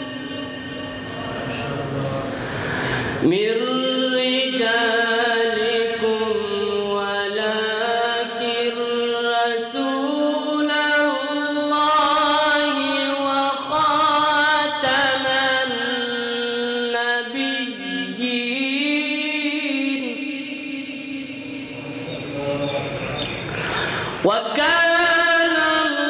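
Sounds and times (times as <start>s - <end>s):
man reciting in melodic chant: 0.0s - 2.6s, 3.2s - 23.5s, 24.1s - 26.0s.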